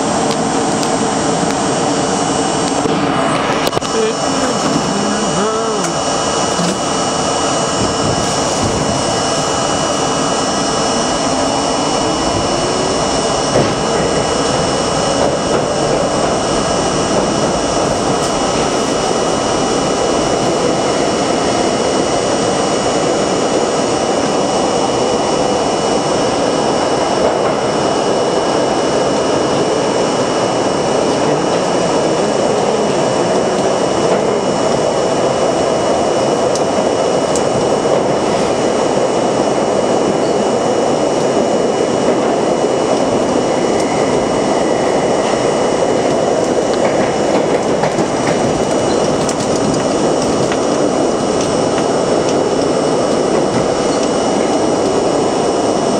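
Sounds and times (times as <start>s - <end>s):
train motor whine: 0.0s - 55.9s
train wheels on rails: 0.0s - 55.9s.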